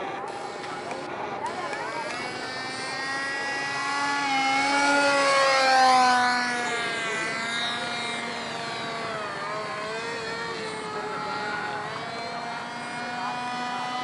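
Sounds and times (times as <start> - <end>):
model airplane motor droning: 0.0 - 14.0.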